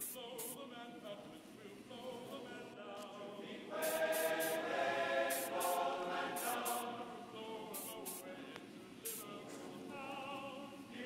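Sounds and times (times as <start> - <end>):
choral singing: 2.1 - 11.0.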